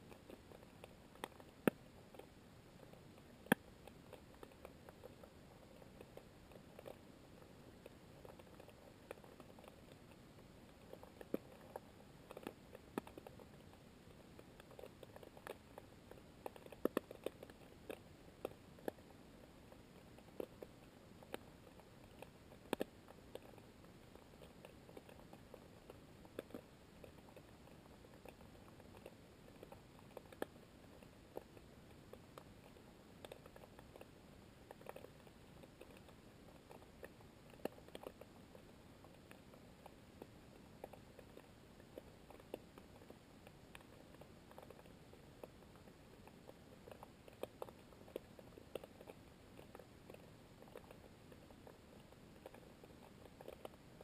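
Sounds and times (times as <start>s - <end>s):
quiet underwater hiss: 0.0s - 54.0s
soft underwater clicks and ticks: 0.0s - 54.0s.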